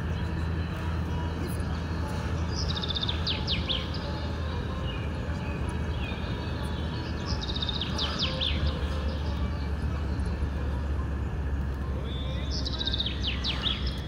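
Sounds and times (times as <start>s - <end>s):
songbird singing: 0.0s - 14.0s
vehicle driving rumble: 0.0s - 14.0s.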